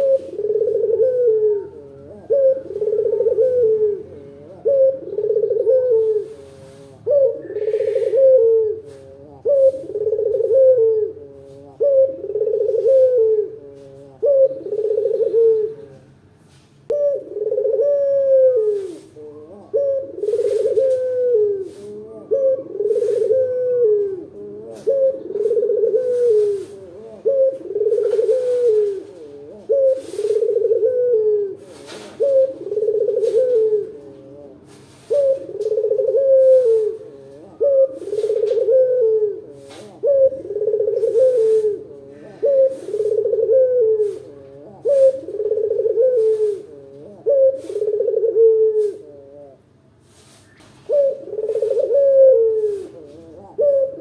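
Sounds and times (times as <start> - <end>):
dove cooing: 0.0 - 16.3, 16.9 - 54.0.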